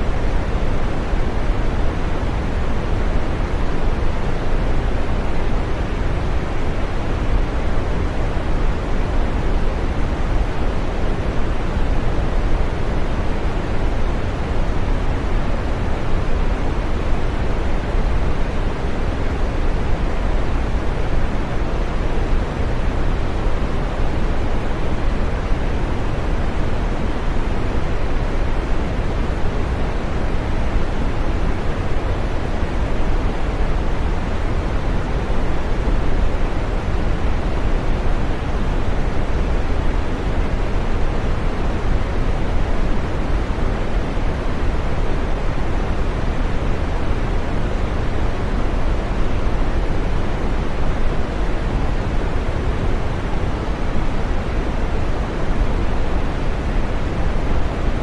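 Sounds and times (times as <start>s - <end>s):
green noise rushing hiss: 0.0s - 58.0s.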